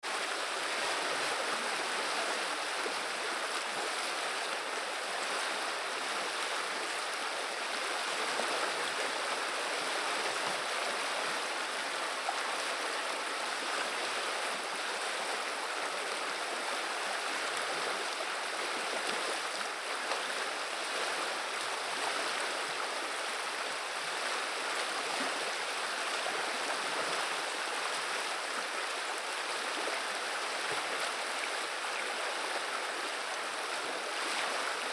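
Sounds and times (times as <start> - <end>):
river water babbling: 0.0 - 34.9.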